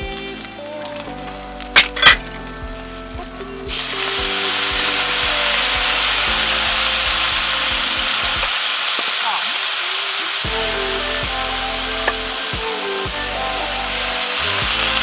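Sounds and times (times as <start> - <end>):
background music: 0.0 - 8.9, 10.3 - 15.0
loud steady hiss: 0.0 - 15.0.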